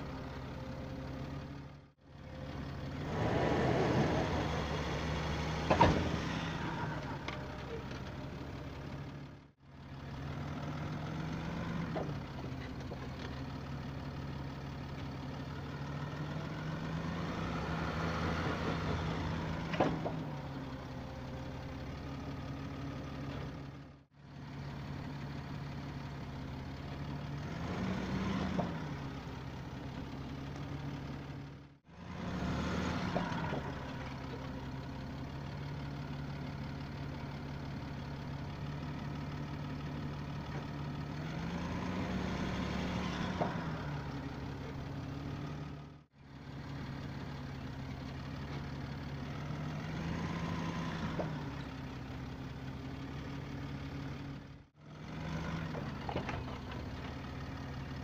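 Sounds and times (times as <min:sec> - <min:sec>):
diesel engine idling and revving: 0:00.0 - 0:58.0.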